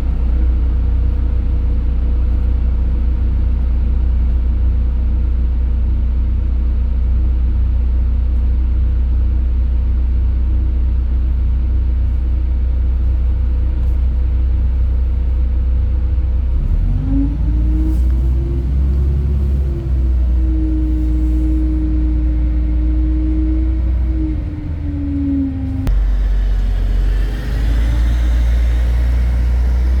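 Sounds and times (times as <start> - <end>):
bus engine rumbling: 0.0 - 5.8, 10.0 - 30.0.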